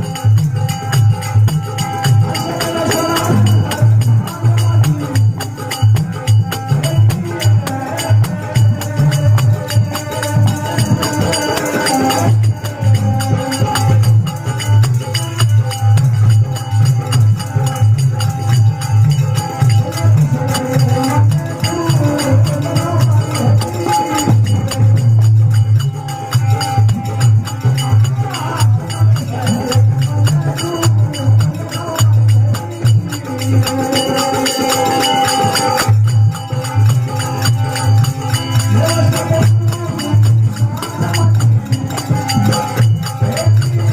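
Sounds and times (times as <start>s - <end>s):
hand drum beat: 0.0s - 43.9s
jingling hand percussion: 0.0s - 43.9s.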